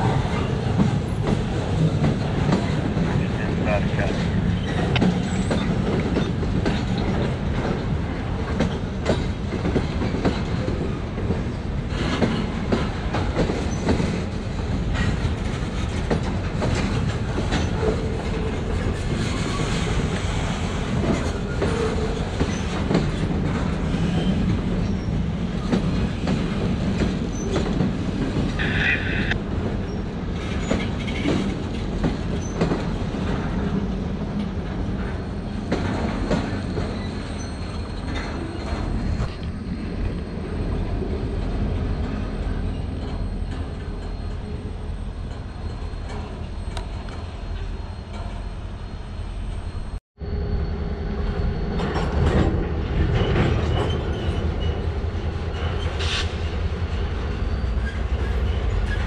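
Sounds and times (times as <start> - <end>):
rail clicks and clacks: 0.0 - 50.0, 51.1 - 59.0
train wheels rumbling on rails: 0.0 - 59.0.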